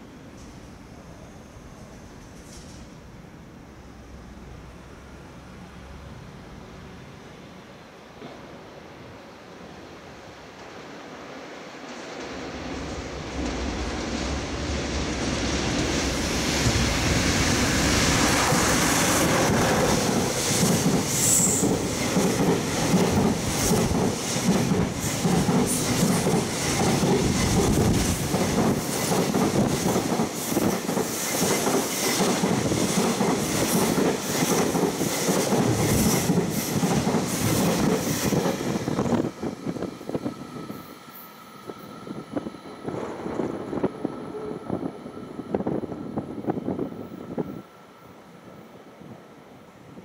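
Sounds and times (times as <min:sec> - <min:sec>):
freight train passing: 0:00.0 - 0:50.0.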